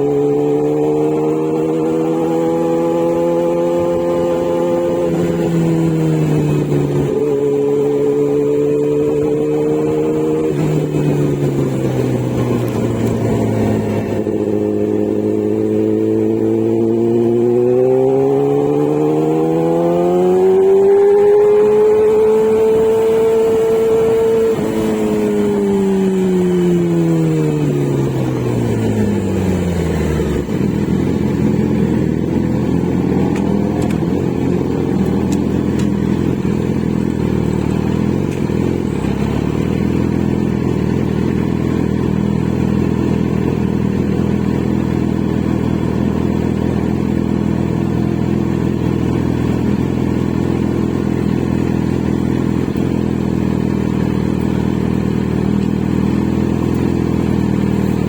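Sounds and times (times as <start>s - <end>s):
motorcycle engine revving then idling: 0.0s - 58.0s.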